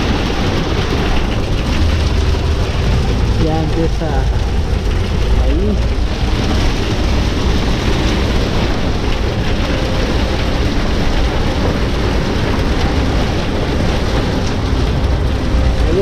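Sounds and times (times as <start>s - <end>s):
bus engine and tyres rumbling: 0.0s - 16.0s
rain and spray hissing: 0.0s - 16.0s.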